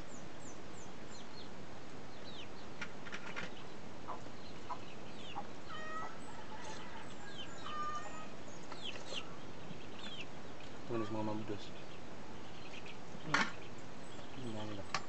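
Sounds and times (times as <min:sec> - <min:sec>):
chickens clucking: 0:01.9 - 0:15.0.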